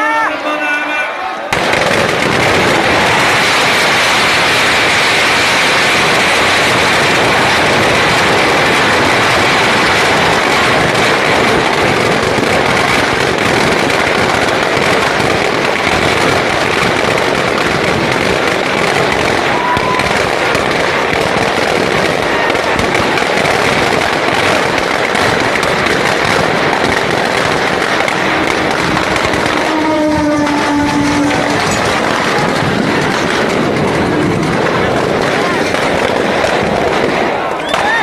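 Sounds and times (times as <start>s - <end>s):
firecrackers crackling: 0.0s - 38.0s.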